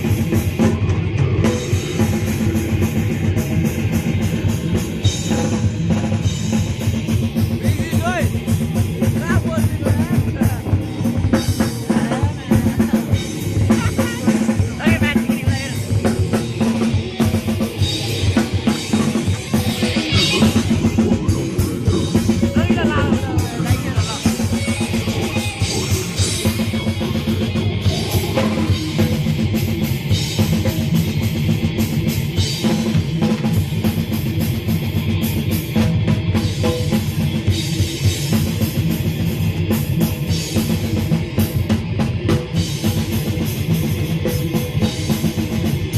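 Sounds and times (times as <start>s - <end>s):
live rock band playing: 0.0s - 45.9s
pounding bass drum: 0.0s - 45.9s.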